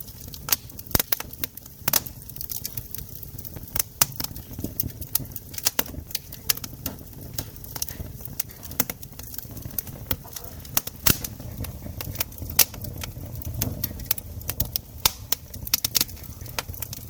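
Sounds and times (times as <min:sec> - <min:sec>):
campfire popping and snapping: 0:00.0 - 0:17.0
low rumble of fire: 0:00.0 - 0:17.0.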